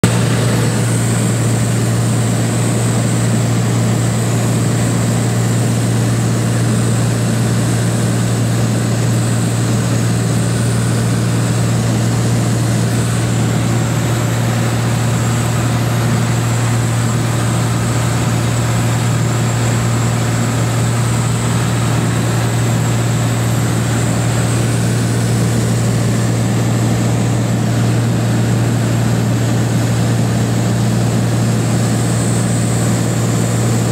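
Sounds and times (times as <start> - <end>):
propeller plane engine drone: 0.0 - 33.9.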